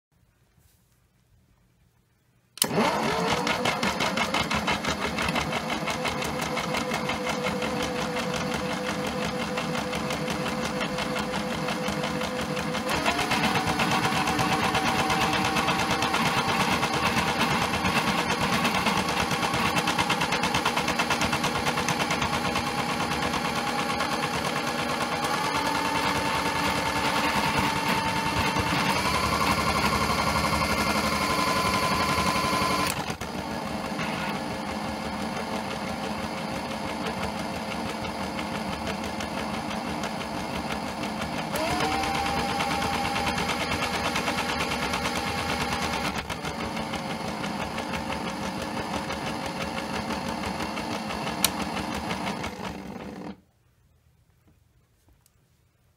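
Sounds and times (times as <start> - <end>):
toy washing machine motor whine: 2.6 - 53.4.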